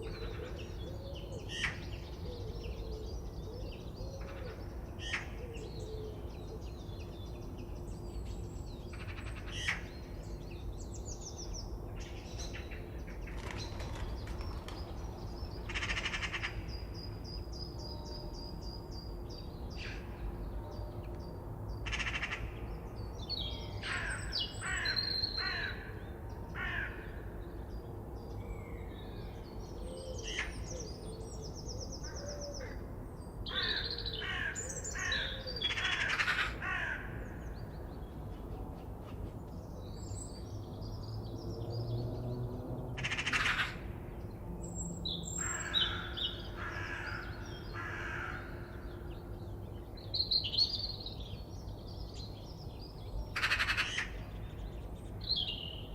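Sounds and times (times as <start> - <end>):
forest birds calling: 0.0 - 55.9.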